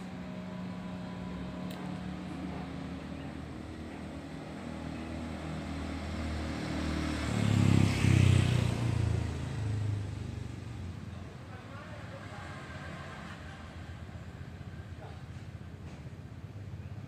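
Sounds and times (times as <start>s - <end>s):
motor scooter passing by: 0.0s - 15.2s.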